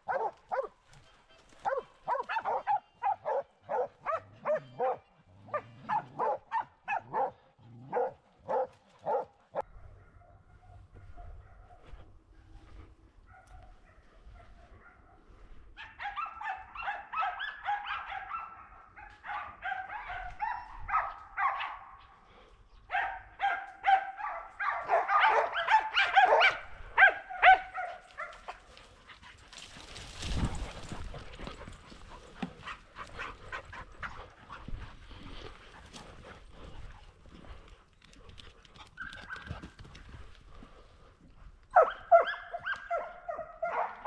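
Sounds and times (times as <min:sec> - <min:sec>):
dogs baying and barking: 0:00.0 - 0:44.0.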